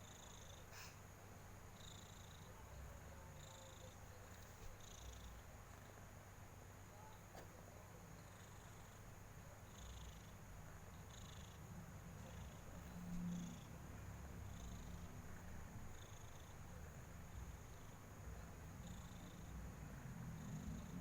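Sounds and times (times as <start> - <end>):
cat purring: 0.0 - 1.0, 1.7 - 21.0.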